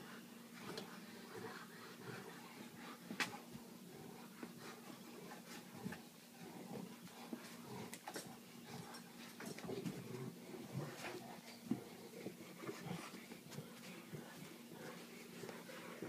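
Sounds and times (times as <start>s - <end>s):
dogs moving and sniffing: 2.8s - 16.0s.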